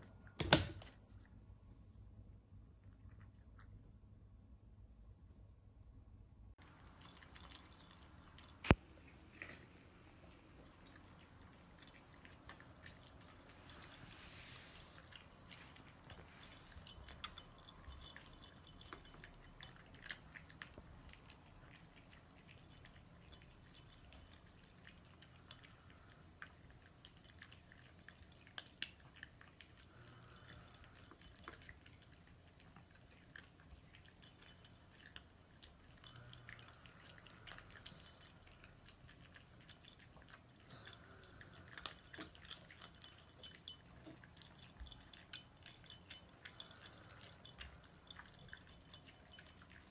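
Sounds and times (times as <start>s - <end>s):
cats crunching dry kibble: 6.6s - 49.9s.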